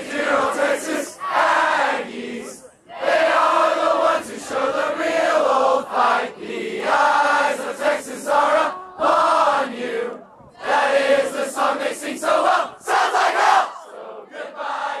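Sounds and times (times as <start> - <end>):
crowd singing in unison: 0.0 - 15.0.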